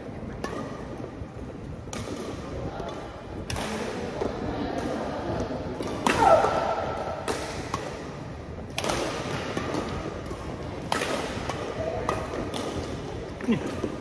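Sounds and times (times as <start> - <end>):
rackets hitting shuttlecocks: 0.3 - 14.0.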